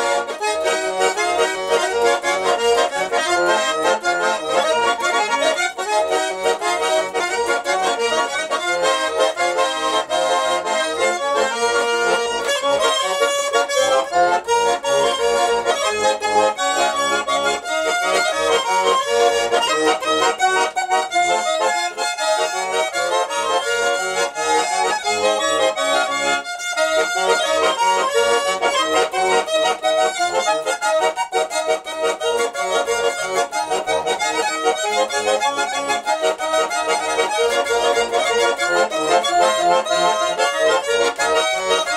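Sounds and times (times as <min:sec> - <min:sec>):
button accordion tune: 0:00.0 - 0:41.9.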